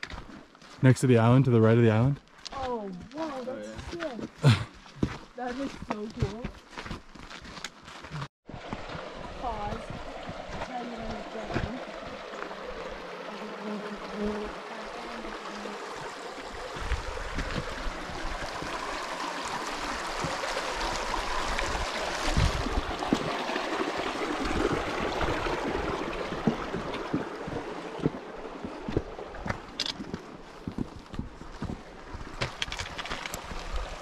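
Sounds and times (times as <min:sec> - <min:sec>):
mountain stream flowing: 0:00.6 - 0:06.4, 0:08.5 - 0:34.0.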